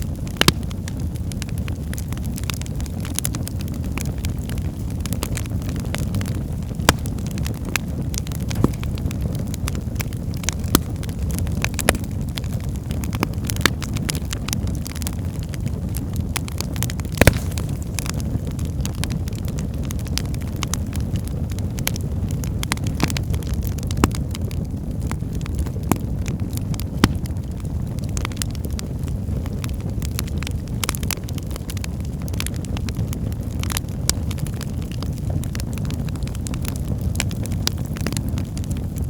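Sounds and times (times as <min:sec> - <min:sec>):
fire crackles and pops: 0:00.0 - 0:39.0
fire roaring in a fireplace: 0:00.0 - 0:39.0.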